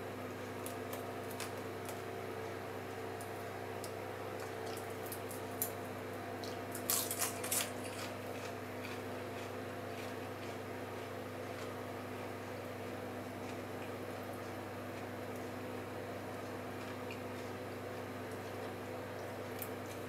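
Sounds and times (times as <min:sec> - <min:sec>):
steady low hum: 0:00.0 - 0:20.0
popcorn crackling and crunching: 0:00.5 - 0:20.0.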